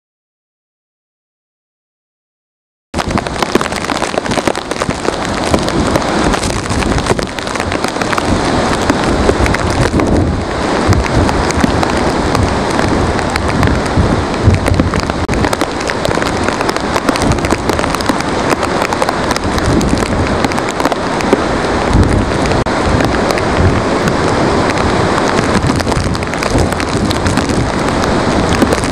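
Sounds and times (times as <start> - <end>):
low gusty wind rumbles: 3.0 - 28.9
rain pelting glass: 3.0 - 28.9.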